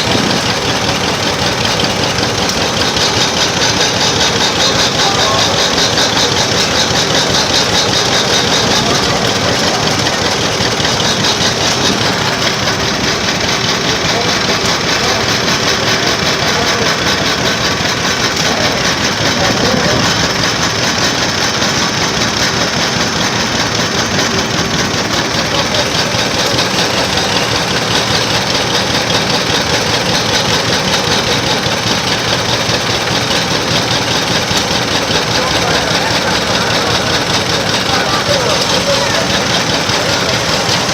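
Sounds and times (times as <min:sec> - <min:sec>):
engine running loudly: 0:00.0 - 0:40.9.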